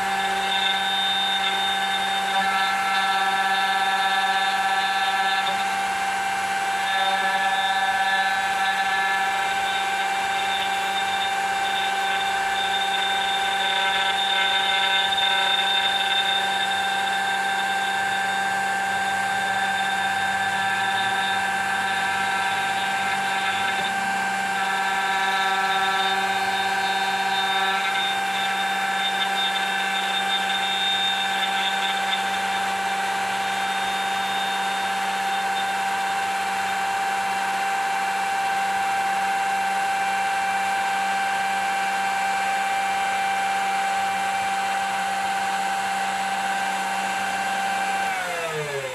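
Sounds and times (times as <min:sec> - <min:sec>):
router motor whining: 0:00.0 - 0:48.9.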